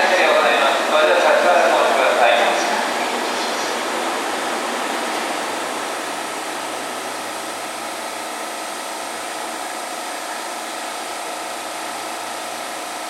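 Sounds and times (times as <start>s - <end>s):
electric train humming: 0.0s - 13.0s.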